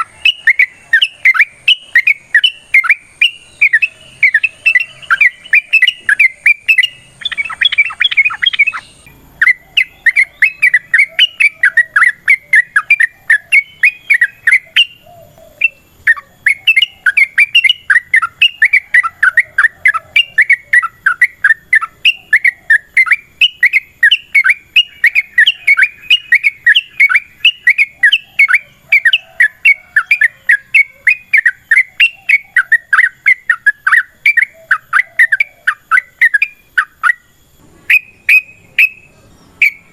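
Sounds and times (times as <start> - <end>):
birds chattering calls: 0.0 - 39.9.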